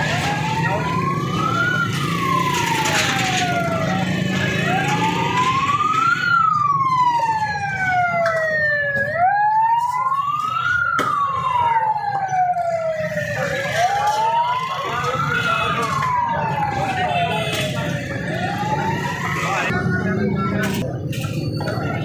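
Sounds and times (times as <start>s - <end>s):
siren wailing: 0.0s - 19.8s
busy street traffic rumble: 0.0s - 22.0s
crowd noise: 0.0s - 22.0s.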